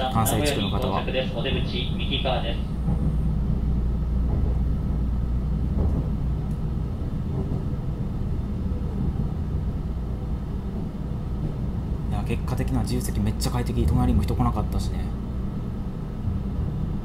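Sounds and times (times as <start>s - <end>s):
train cabin low rumble: 0.0s - 17.0s.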